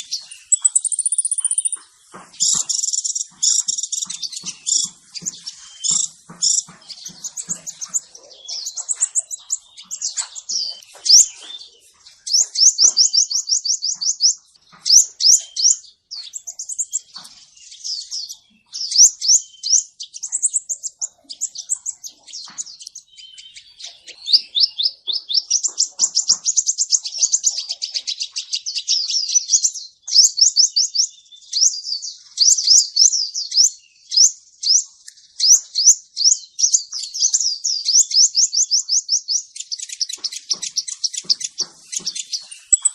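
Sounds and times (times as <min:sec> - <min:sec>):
bird trilling and chipping: 0:00.0 - 0:42.9.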